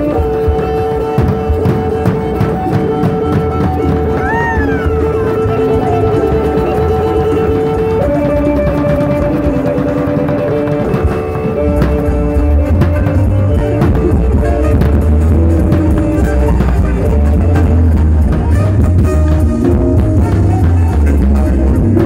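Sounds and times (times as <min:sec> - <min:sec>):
bass drum beating: 0:00.0 - 0:22.0
held melody line: 0:00.0 - 0:22.0
side drum beating: 0:00.0 - 0:22.0.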